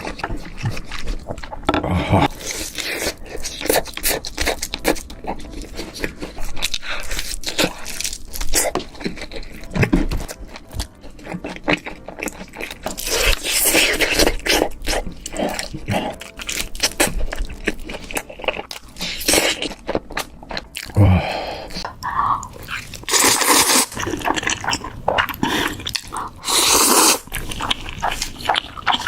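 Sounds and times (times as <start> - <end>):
crunchy bites and wet chewing: 0.0 - 29.0.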